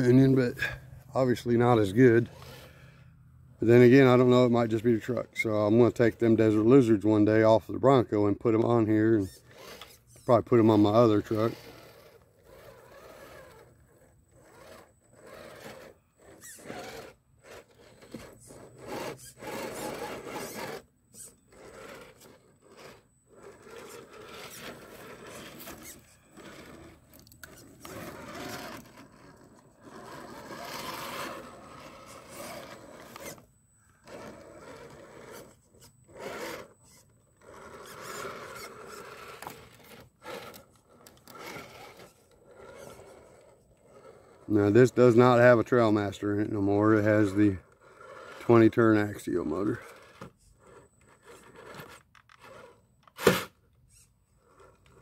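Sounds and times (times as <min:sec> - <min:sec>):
rc car motor and gearbox whirring: 0:00.0 - 0:03.0, 0:03.6 - 0:55.0
tyres scraping on wood and concrete: 0:03.7 - 0:55.0.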